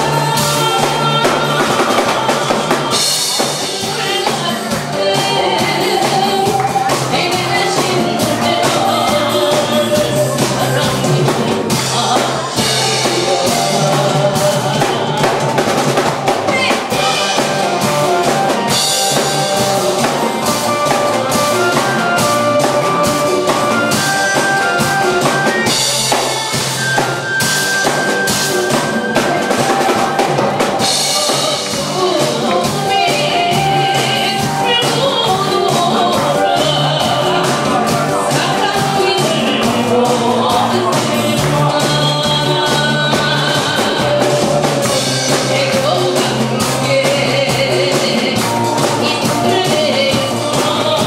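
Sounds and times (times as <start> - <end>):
backing band with drum kit: 0.0 - 51.0
woman singing into microphone: 0.0 - 51.0.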